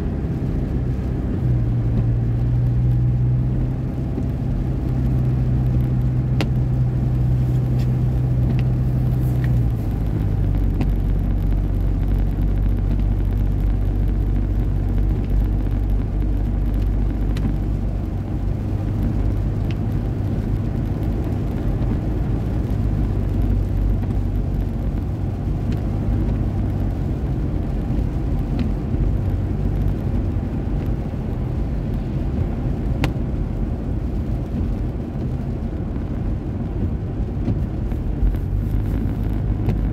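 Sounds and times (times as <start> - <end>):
car engine and tyre drone: 0.0 - 39.9
light ticks: 3.6 - 14.2, 14.9 - 18.2, 18.9 - 39.9.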